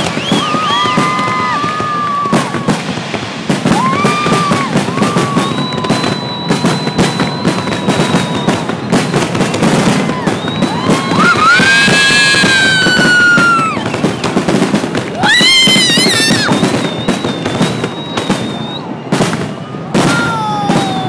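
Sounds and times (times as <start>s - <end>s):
fireworks bangs and crackling: 0.0s - 21.0s
whistling fireworks: 0.0s - 21.0s.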